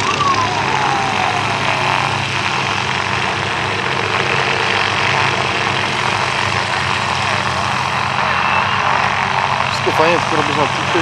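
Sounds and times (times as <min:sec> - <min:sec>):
propeller plane engine overhead: 0:00.0 - 0:11.0.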